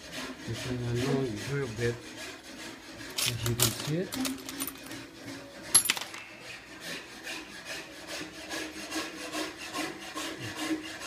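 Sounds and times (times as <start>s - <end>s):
hand tool scraping on metal: 0.0s - 11.0s.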